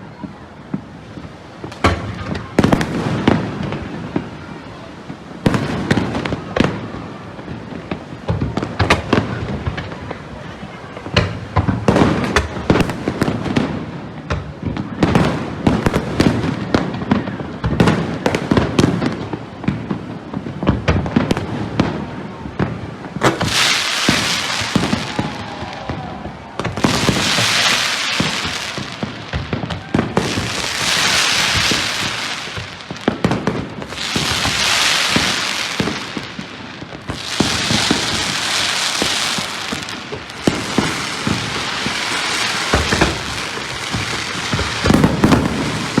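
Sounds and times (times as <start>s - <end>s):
firework bangs: 0.0s - 46.0s
hissing crackling firework bursts: 0.0s - 46.0s.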